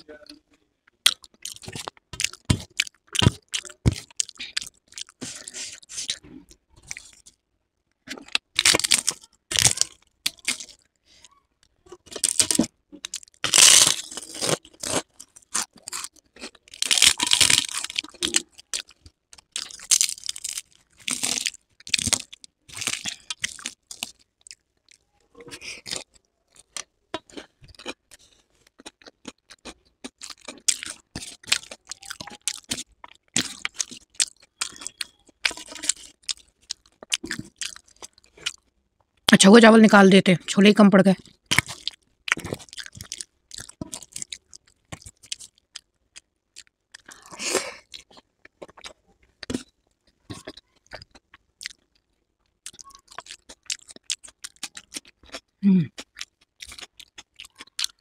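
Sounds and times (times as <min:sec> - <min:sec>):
crunchy chewing: 0:01.0 - 0:07.4, 0:12.0 - 0:38.7, 0:41.2 - 0:58.0.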